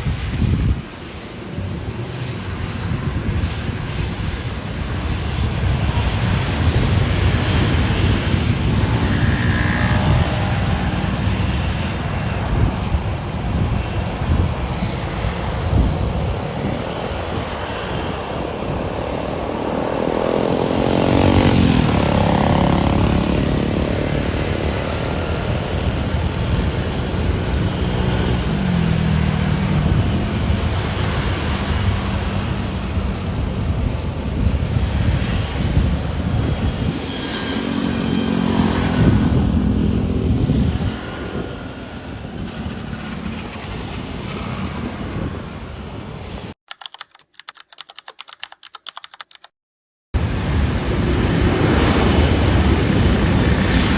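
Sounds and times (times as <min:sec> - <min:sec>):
jet airliner engines rumbling: 0:00.0 - 0:46.6, 0:50.2 - 0:53.9
jet engine whine sliding down: 0:00.0 - 0:46.6, 0:50.2 - 0:53.9.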